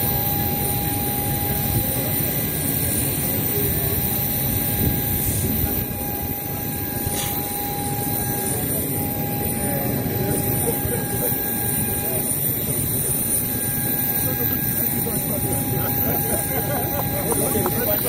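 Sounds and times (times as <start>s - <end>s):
aircraft engine rumble: 0.0s - 18.0s.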